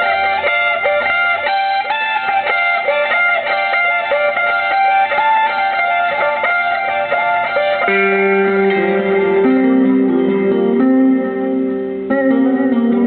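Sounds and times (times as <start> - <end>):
guitar plucked notes: 0.0 - 13.0.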